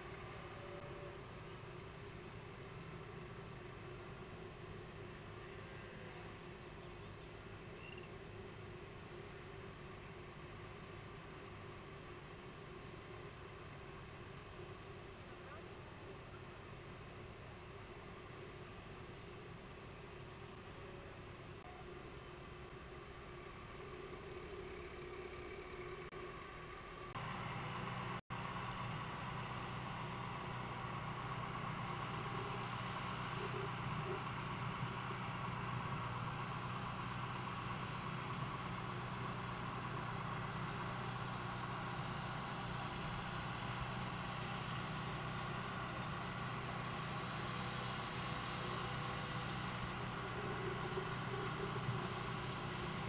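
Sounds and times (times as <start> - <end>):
tractor engine droning: 0.0 - 53.0.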